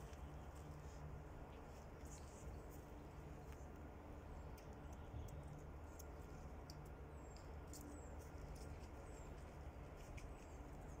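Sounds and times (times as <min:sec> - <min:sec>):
low steady rumble: 0:00.0 - 0:11.0
small birds chirping: 0:00.0 - 0:11.0.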